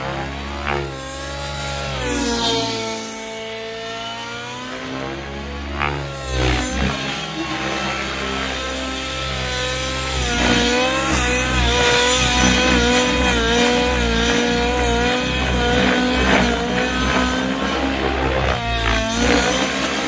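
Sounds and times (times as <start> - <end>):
model helicopter engine at high speed: 0.0 - 20.0.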